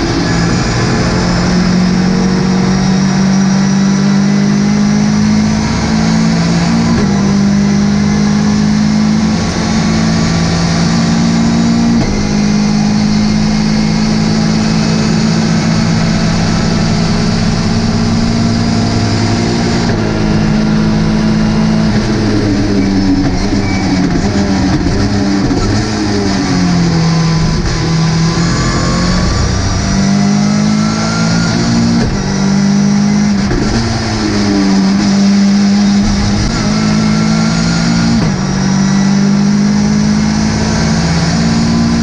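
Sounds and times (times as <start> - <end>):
race car engine at high revs: 0.0 - 42.0.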